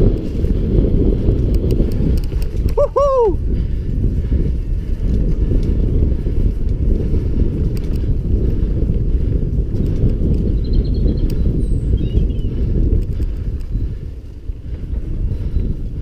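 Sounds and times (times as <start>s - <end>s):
bike rattling clicks: 0.0s - 16.0s
bike tyres rumbling on dirt: 0.0s - 16.0s.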